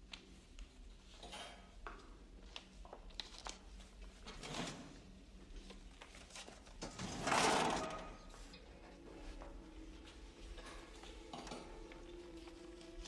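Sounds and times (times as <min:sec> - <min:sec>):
papers rustling: 0:02.4 - 0:13.0.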